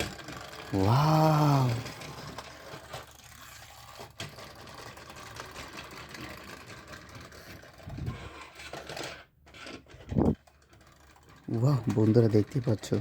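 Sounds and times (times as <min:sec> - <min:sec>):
toy helicopter whirring: 0:00.0 - 0:13.0.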